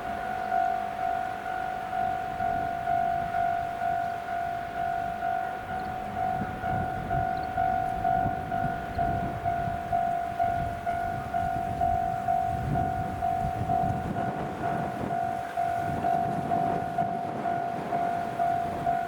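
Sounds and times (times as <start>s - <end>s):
level crossing bell clanging: 0.0s - 19.0s.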